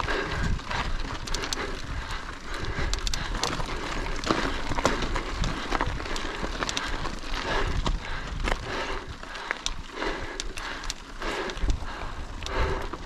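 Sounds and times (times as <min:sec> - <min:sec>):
bike clicking and rattling: 0:00.0 - 0:13.0
tyres crunching over stones: 0:00.0 - 0:13.0.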